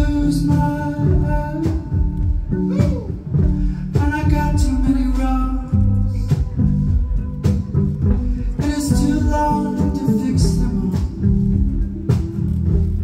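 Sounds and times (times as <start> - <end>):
person singing: 0.0 - 12.2
plucked bass line: 0.0 - 13.0.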